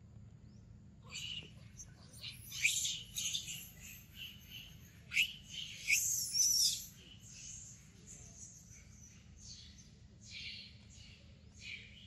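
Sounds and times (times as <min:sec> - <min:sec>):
birds chirping: 0:00.5 - 0:12.0.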